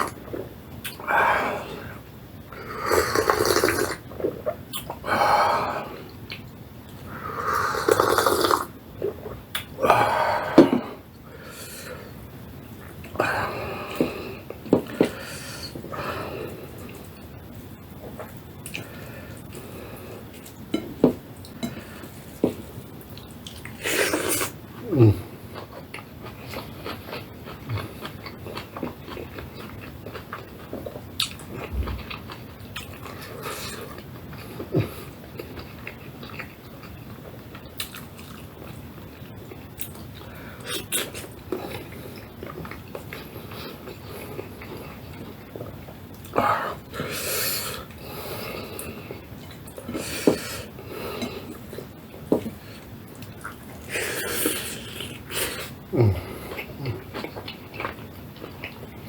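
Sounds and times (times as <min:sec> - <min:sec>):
person chewing food: 0:00.0 - 0:17.4, 0:18.0 - 0:59.0.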